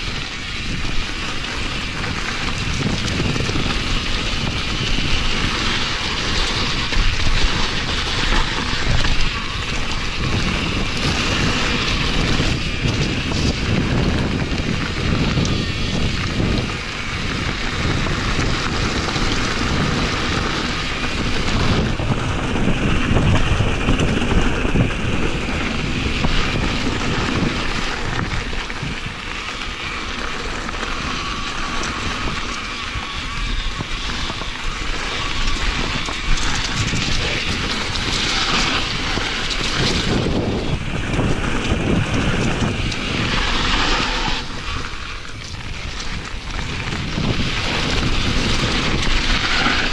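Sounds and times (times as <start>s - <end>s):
bike rattling over bumps: 0.0s - 49.9s
bike tyres rumbling on dirt: 0.0s - 49.9s
wind buffeting microphone: 0.0s - 49.9s.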